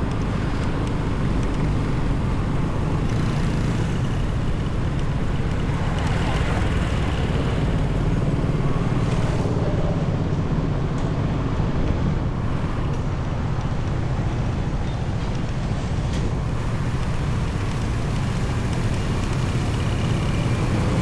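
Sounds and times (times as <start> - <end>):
motorbike engine rumble: 0.0 - 9.6, 12.0 - 21.0
road noise: 0.0 - 21.0.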